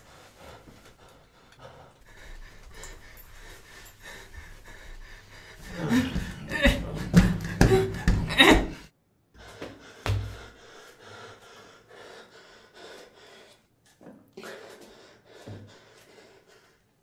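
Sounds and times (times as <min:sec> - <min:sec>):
man breathing heavily: 0:00.0 - 0:17.0.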